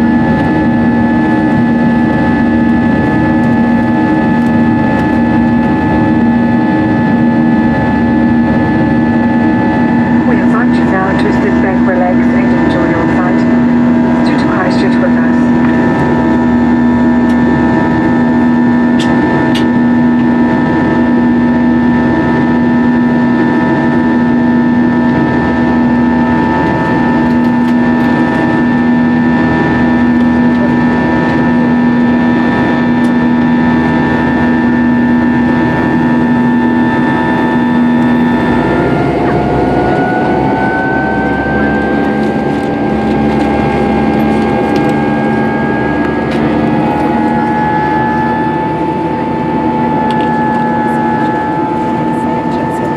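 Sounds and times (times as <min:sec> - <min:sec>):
jet engines heard from cabin: 0:00.0 - 0:52.9
whine rising in pitch: 0:00.0 - 0:52.9.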